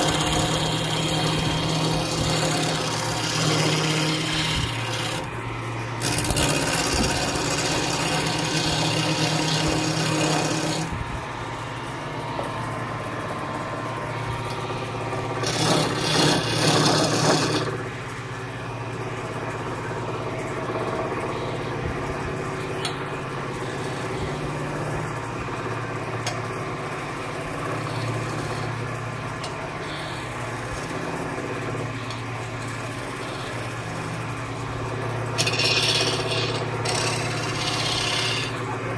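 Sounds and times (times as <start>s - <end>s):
chisel cutting spinning wood: 0.0s - 12.6s, 14.0s - 21.7s, 22.5s - 38.9s
wood lathe humming: 0.0s - 38.9s.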